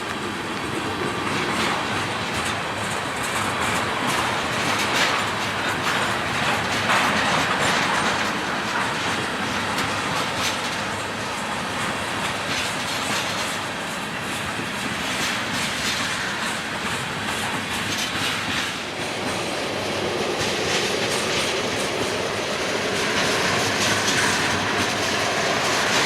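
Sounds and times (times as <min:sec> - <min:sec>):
freight train cars rolling: 0:00.0 - 0:26.0
wheels clicking over rail joints: 0:00.0 - 0:26.0.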